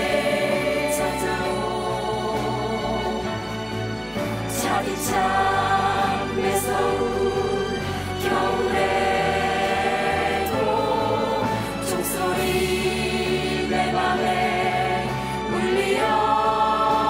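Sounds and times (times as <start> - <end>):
group singing a christmas song: 0.0 - 17.0.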